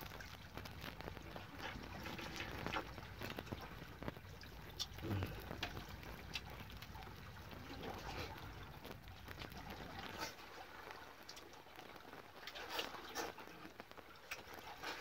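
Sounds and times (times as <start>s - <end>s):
background noise: 0.0s - 15.0s.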